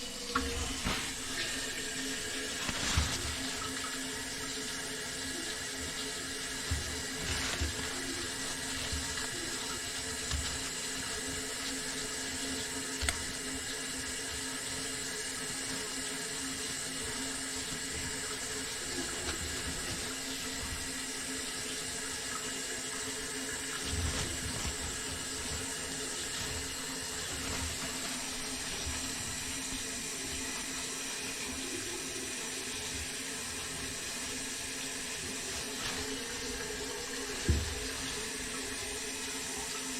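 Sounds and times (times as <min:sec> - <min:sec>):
faucet running into sink: 0:00.0 - 0:39.9.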